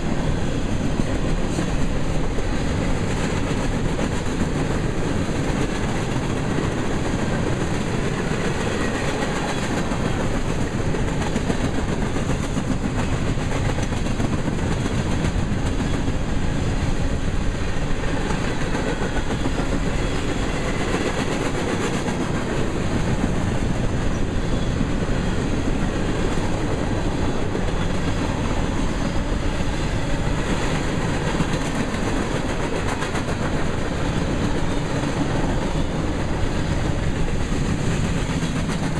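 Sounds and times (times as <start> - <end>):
train cars rumbling past: 0.0 - 38.9.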